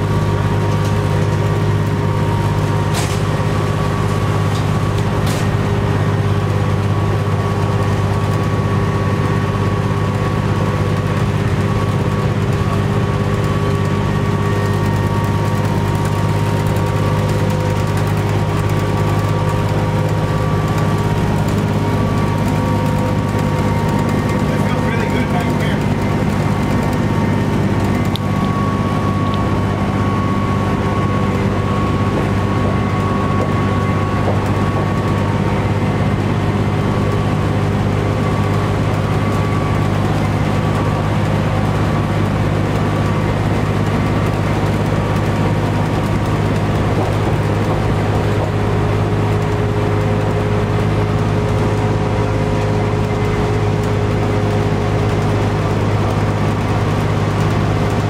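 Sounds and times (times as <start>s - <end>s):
bus diesel engine drone: 0.0s - 58.0s
road noise: 0.0s - 58.0s.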